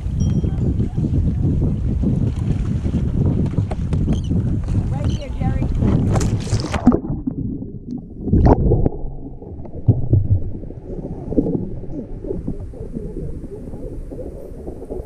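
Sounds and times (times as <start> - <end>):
muffled water sloshing and gurgling: 0.0 - 15.0
water splashing: 2.1 - 15.0.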